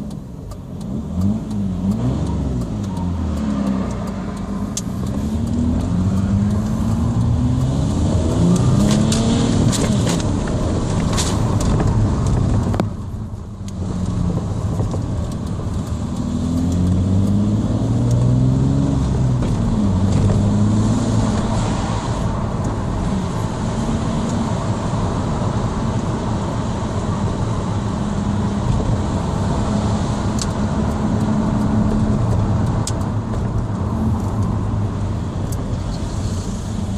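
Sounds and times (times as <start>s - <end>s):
diesel engine revving: 0.0s - 36.9s.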